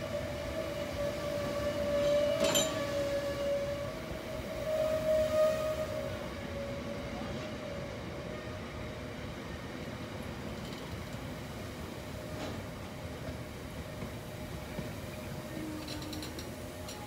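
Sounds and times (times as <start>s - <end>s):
train running past with high whine: 0.0s - 17.0s.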